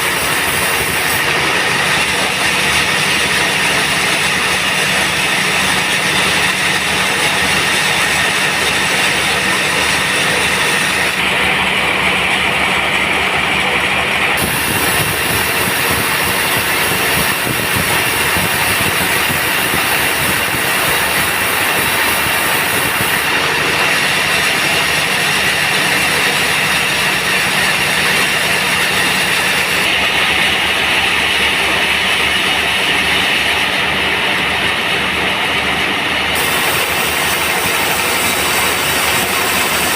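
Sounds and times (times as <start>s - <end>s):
band saw sawing wood: 0.0s - 39.9s.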